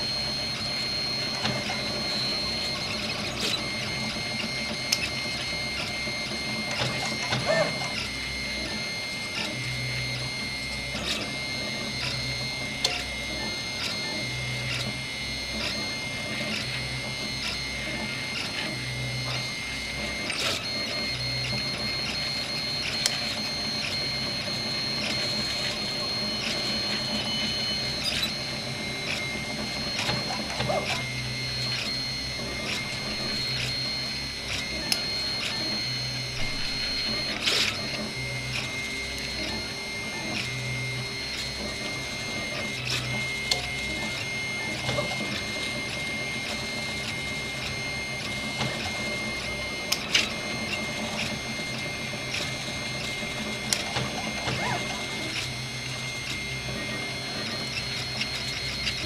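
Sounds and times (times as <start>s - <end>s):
stepper motors whining: 0.0s - 59.0s.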